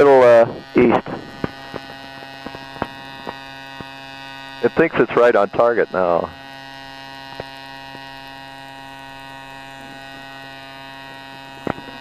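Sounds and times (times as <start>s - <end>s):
drone propeller humming: 0.0s - 12.0s.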